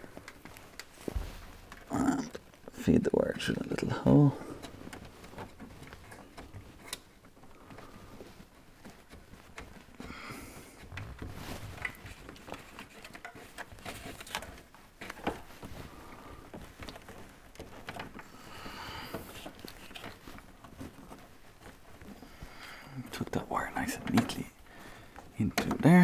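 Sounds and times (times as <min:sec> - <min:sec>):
rustling of wire: 0:00.0 - 0:26.0.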